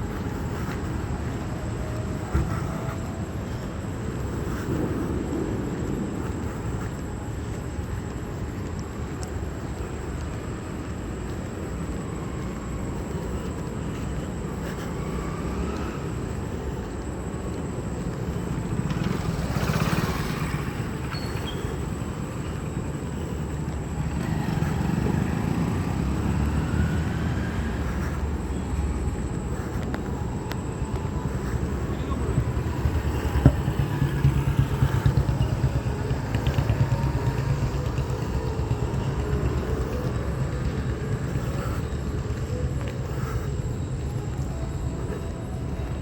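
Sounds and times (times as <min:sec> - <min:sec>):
low rumble of vehicle noise: 0:00.0 - 0:46.0.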